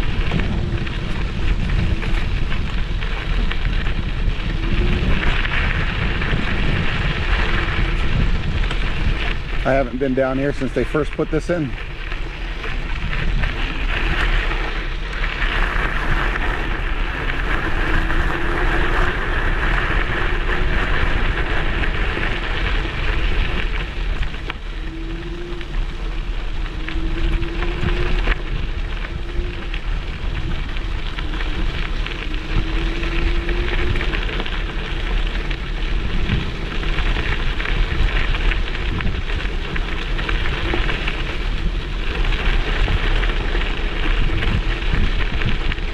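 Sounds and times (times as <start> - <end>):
faint whine: 0.0 - 45.9
tyres rumbling on road: 0.0 - 45.9
wind on microphone: 0.0 - 45.9.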